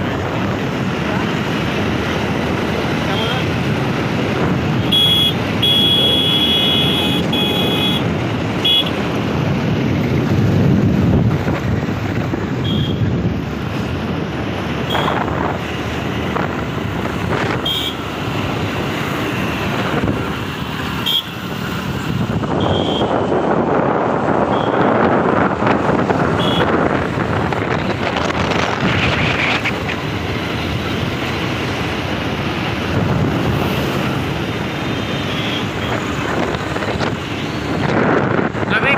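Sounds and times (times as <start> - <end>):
passing traffic: 0.0 - 38.9
vehicle road and wind noise: 0.0 - 38.9.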